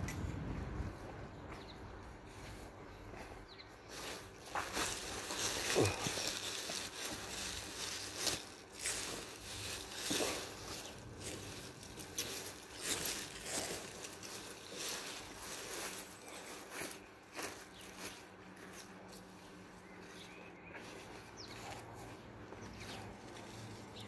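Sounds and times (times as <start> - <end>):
soil scraping and crunching: 0.0 - 24.0
leaves rustling: 2.2 - 24.0.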